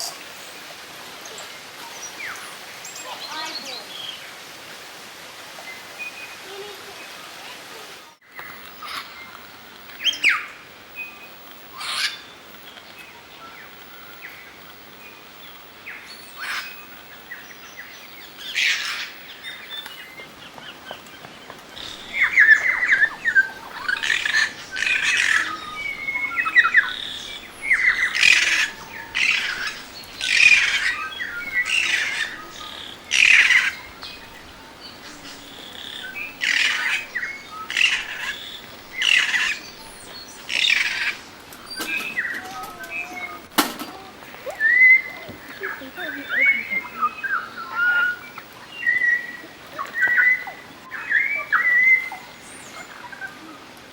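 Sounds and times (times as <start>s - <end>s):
birds harsh rasping calls: 0.0s - 10.5s, 11.6s - 12.5s, 16.0s - 53.3s.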